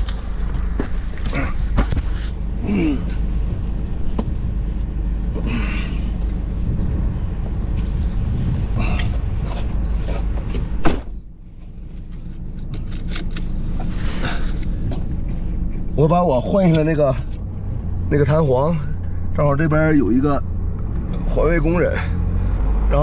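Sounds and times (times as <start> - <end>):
small car engine rumbling: 0.0 - 23.0.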